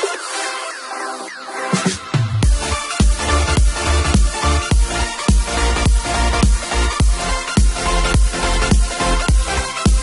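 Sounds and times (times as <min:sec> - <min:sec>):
held synth chords with falling sweeps: 0:00.0 - 0:10.0.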